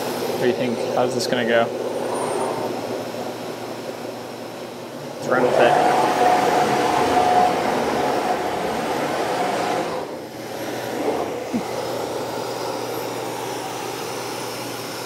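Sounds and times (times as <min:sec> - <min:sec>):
machinery whirring: 0:00.0 - 0:15.0.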